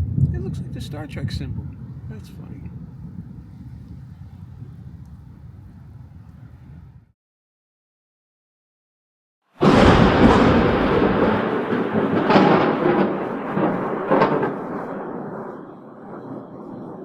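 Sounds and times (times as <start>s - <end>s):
thunderclap cracking and rumbling: 0.0s - 7.1s, 9.6s - 17.0s.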